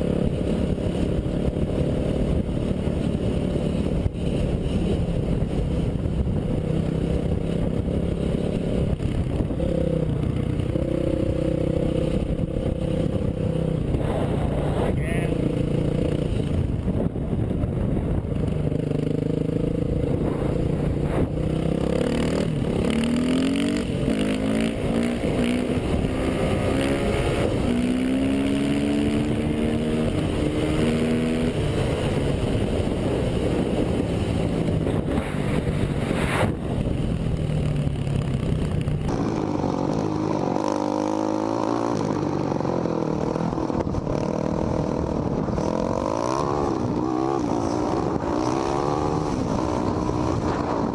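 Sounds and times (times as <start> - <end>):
dirt bike engines revving: 0.0 - 17.8, 18.4 - 50.9.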